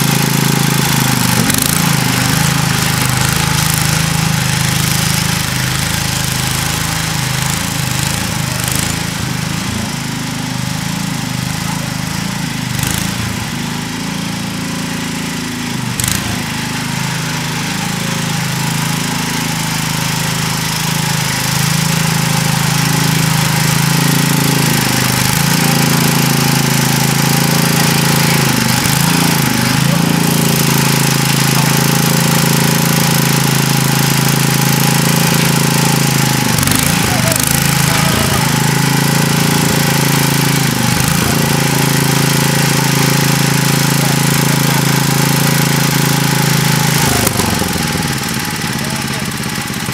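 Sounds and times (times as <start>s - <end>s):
garden tractor engine running: 0.0s - 49.9s.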